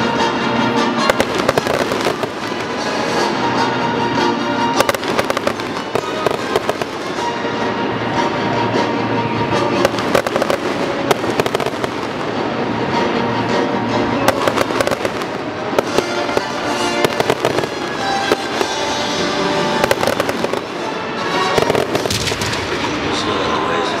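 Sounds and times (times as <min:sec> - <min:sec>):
fireworks bursting and crackling: 0:00.0 - 0:24.0
music playing: 0:00.0 - 0:24.0.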